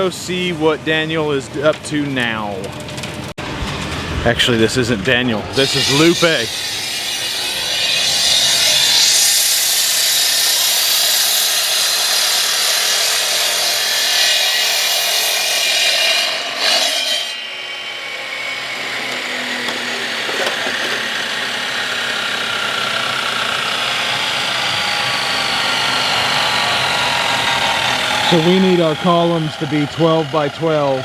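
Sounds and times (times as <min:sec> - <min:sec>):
power saw cutting concrete block: 0:05.2 - 0:31.0.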